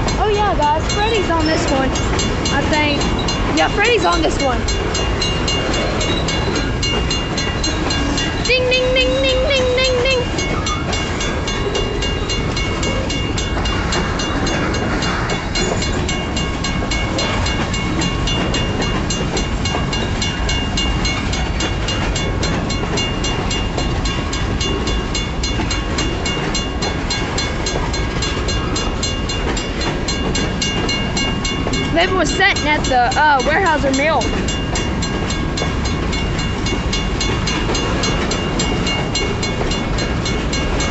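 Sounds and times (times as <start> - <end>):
crossing bell ringing: 0.0 - 40.9
freight train wheels clacking: 0.0 - 40.9.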